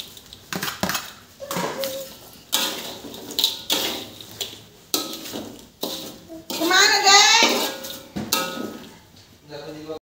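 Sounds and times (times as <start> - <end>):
metal spatula scraping wok: 0.0 - 9.1.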